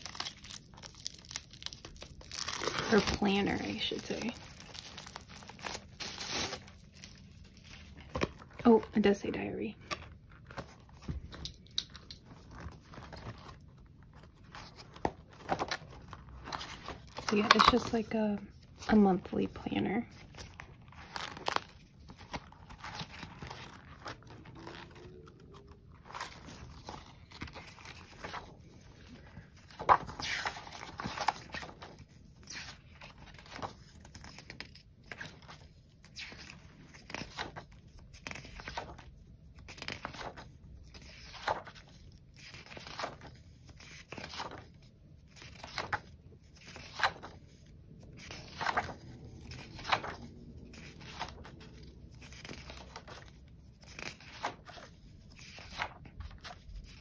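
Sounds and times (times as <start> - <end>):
paper pages rustling: 0.0 - 9.2, 9.8 - 57.0.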